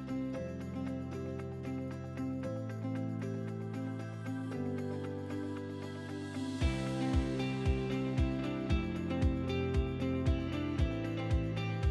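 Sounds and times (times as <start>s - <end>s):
soft instrumental music: 0.0s - 11.9s.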